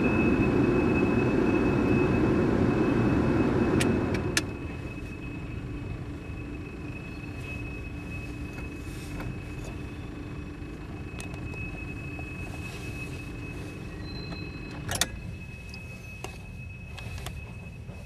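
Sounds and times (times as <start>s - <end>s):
high whine: 0.0s - 18.0s.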